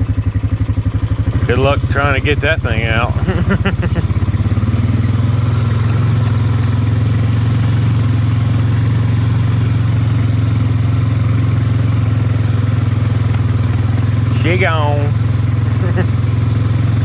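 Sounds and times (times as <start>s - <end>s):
atv engine droning: 0.0s - 17.0s.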